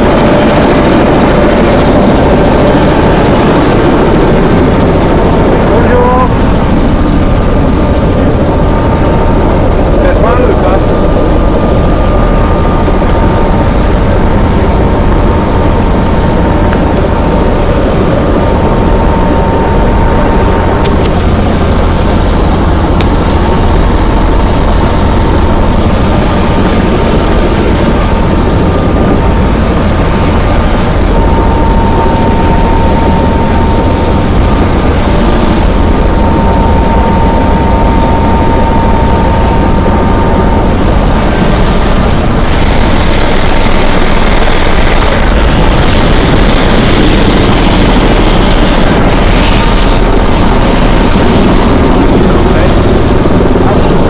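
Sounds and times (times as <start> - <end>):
helicopter engine rumble and whine: 0.0 - 54.0.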